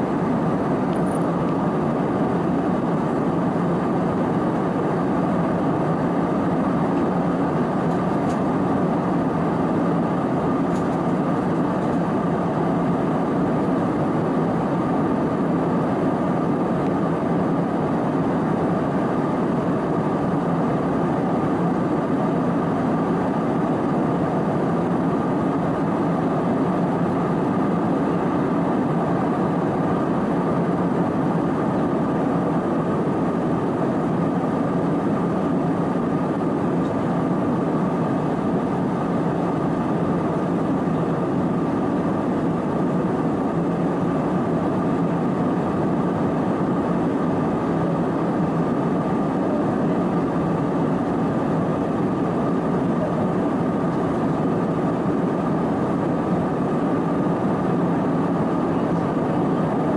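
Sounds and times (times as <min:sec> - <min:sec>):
airflow rushing over airplane cabin: 0:00.0 - 0:59.9
jet engines droning: 0:00.0 - 0:59.9.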